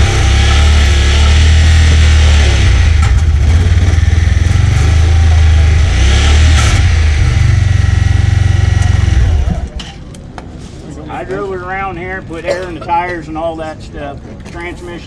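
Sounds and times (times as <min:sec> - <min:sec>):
engine running with low drone: 0:00.0 - 0:15.0.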